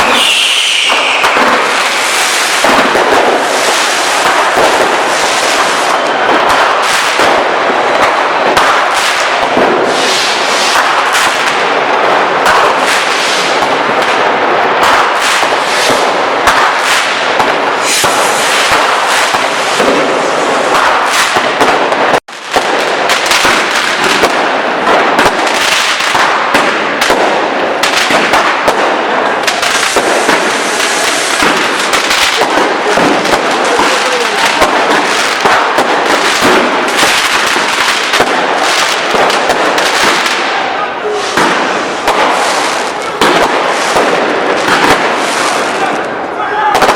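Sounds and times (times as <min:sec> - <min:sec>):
fireworks and firecrackers bangs: 0:00.0 - 0:46.9.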